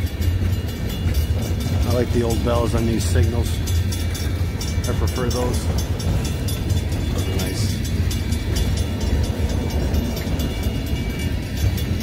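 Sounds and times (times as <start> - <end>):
freight cars rumbling on rails: 0.0 - 12.0
mechanical crossing bells ringing: 0.0 - 12.0.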